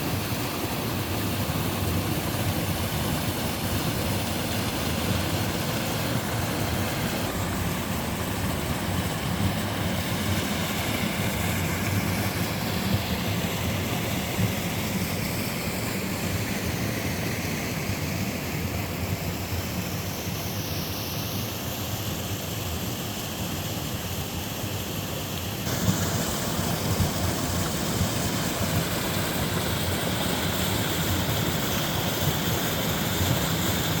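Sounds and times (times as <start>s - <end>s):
stream and waterfall rushing: 0.0s - 34.0s.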